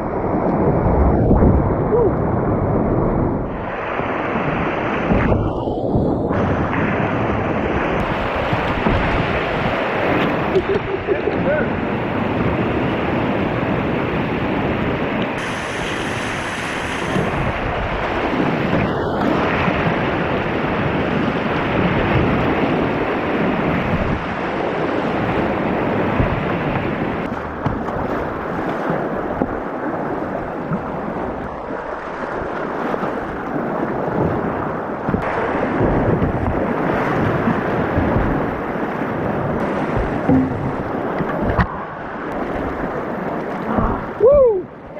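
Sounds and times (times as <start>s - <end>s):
whitewater rapids rushing: 6.4s - 33.3s, 35.2s - 44.9s.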